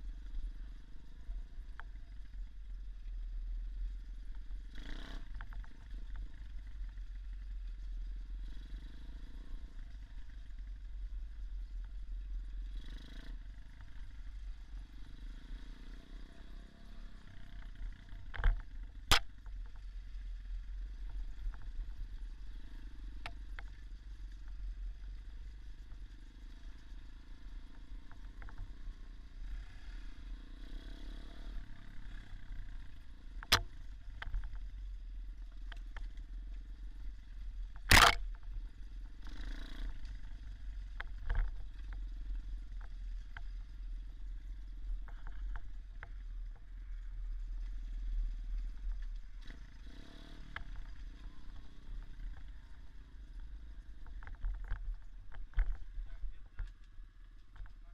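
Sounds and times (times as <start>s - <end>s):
dirt bike engine rumbling: 0.0s - 57.9s.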